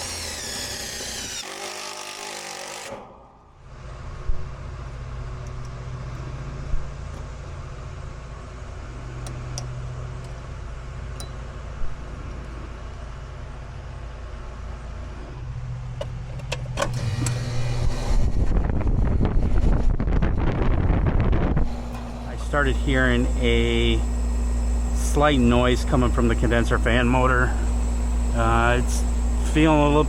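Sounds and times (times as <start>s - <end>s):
air conditioner electric hum: 3.2s - 30.0s.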